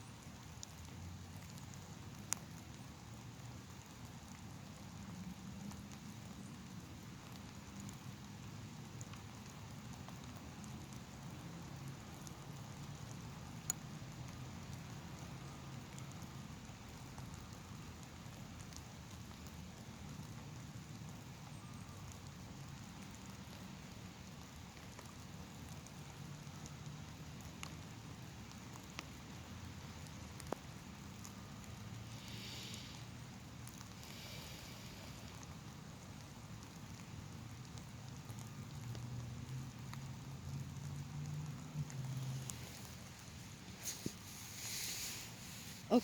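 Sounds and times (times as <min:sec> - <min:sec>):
light rain patter: 0:00.0 - 0:46.0.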